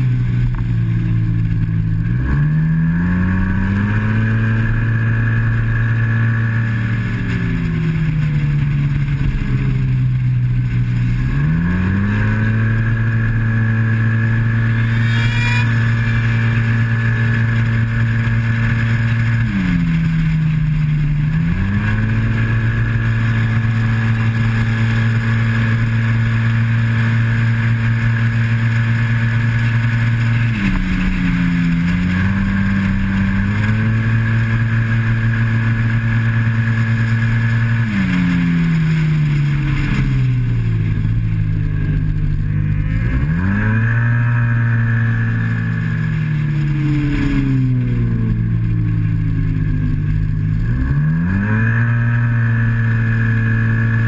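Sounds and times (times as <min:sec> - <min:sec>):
scooter engine at full throttle: 0:00.0 - 0:54.0.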